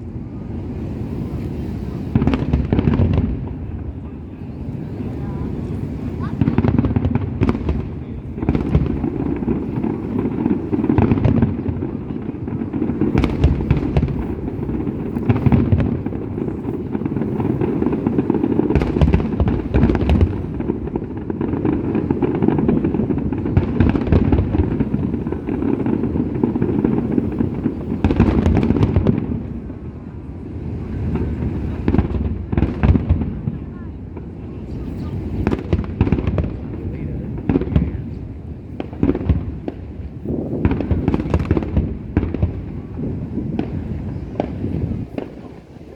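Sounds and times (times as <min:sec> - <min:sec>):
fireworks bangs and crackles: 0:00.0 - 0:45.9
rumble of fireworks bursts: 0:00.0 - 0:45.9.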